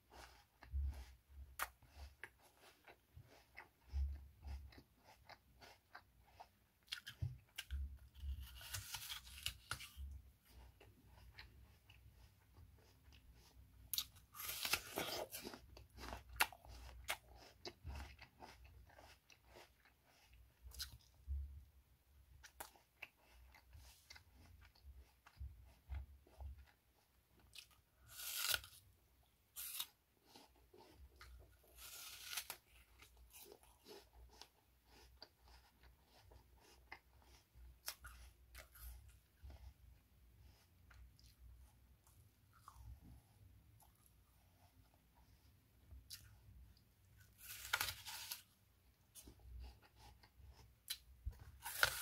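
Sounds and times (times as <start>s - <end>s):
apple bitten and chewed: 0.0s - 52.0s.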